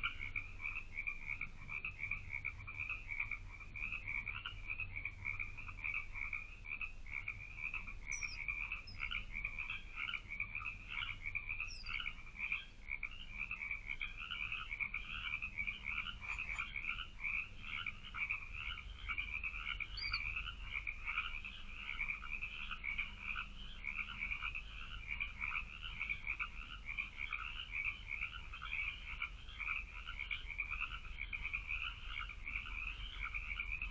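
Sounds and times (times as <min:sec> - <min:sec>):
faint low hum: 0:00.0 - 0:33.9
frogs croaking in chorus: 0:00.0 - 0:33.9.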